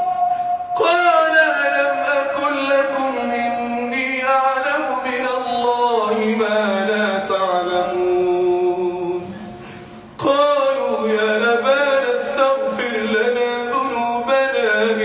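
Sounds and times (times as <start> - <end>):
man chanting melodically: 0.0 - 9.4, 10.2 - 15.0.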